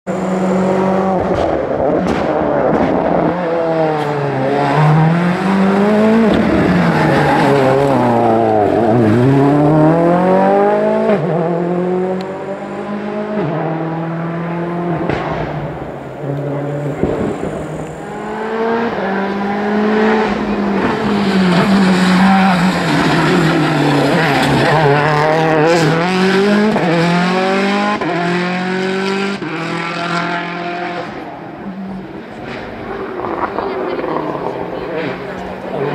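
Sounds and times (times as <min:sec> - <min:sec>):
rally car engines at full throttle: 0:00.0 - 0:35.9.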